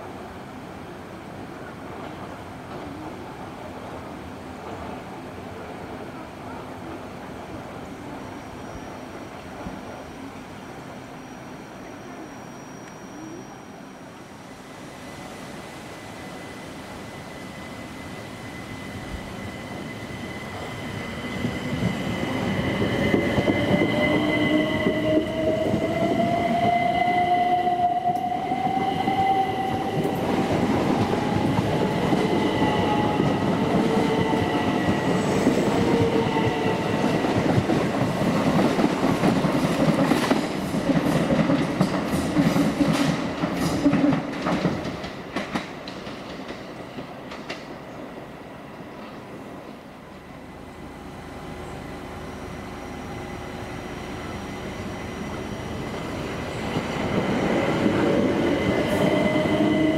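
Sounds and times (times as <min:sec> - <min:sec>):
electric train whine: 0:00.0 - 0:59.9.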